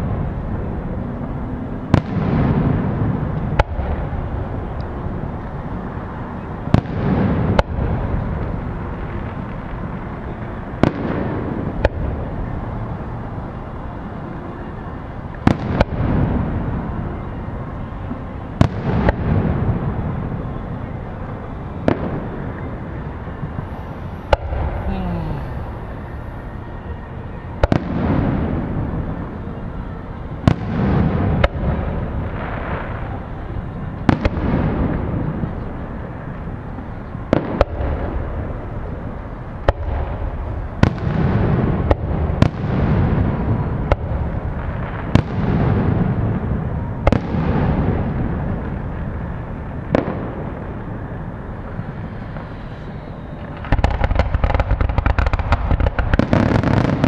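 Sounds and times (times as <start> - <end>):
crackling fireworks barrage: 0.0 - 57.0.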